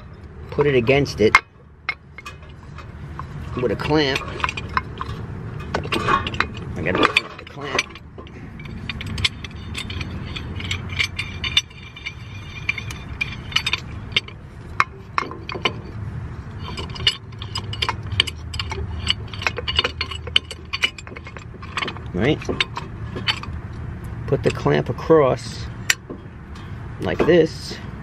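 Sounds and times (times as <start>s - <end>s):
small metal clicks and clinks: 0.0s - 16.0s, 16.6s - 24.7s
low steady rumble: 0.0s - 28.0s.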